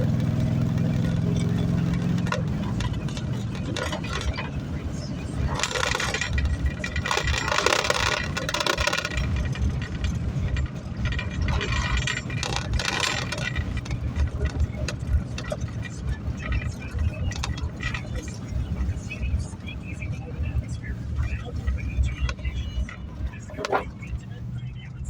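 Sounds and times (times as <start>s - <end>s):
rattles and clicks: 0.0s - 25.0s
truck engine and road rumble: 0.0s - 25.0s.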